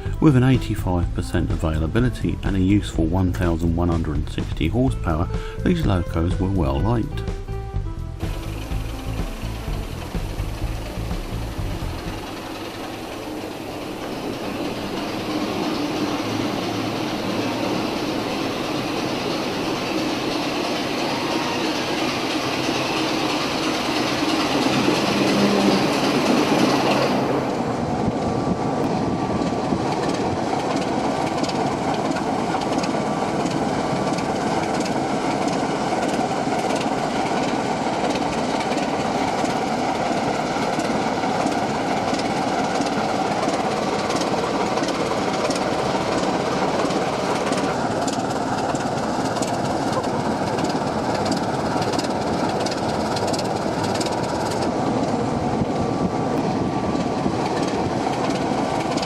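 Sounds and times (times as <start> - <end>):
model train running: 0.0 - 59.0
wheels clicking over rails: 8.1 - 59.0.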